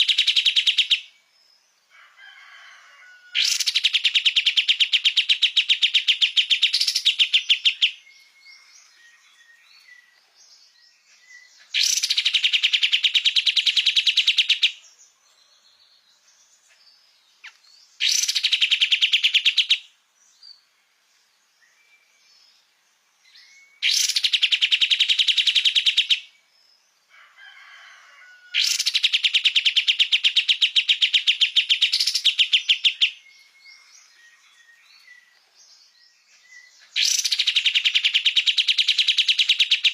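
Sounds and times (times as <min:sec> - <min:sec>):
songbird singing rattling trill: 0:00.0 - 0:01.8, 0:03.3 - 0:27.0, 0:28.5 - 0:39.9
faint bird twittering: 0:03.4 - 0:26.4, 0:28.5 - 0:39.9.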